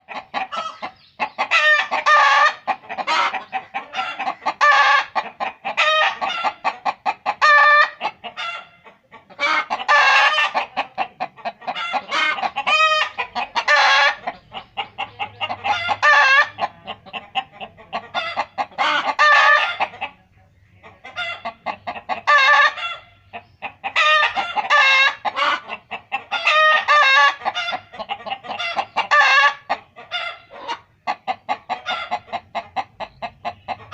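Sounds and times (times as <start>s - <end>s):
chicken clucking: 0.0s - 33.9s.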